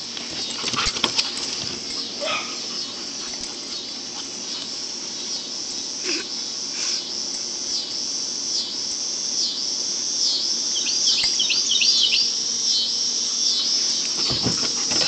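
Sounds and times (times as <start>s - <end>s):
pulsing insect chorus: 0.0s - 15.0s
short insect chirps: 1.8s - 15.0s.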